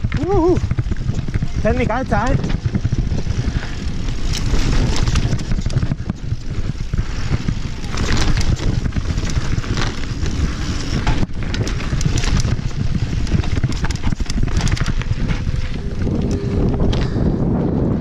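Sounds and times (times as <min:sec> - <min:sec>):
tyres rolling over dirt and stones: 0:00.0 - 0:17.2
bike rattling with clicks and knocks: 0:00.0 - 0:18.0
wind buffeting microphone: 0:00.0 - 0:18.0.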